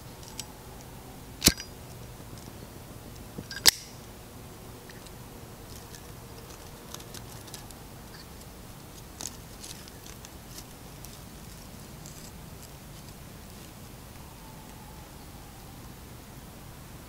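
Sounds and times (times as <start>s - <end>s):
small fire crackling: 0.0s - 16.7s
faint steady hiss: 0.0s - 17.0s.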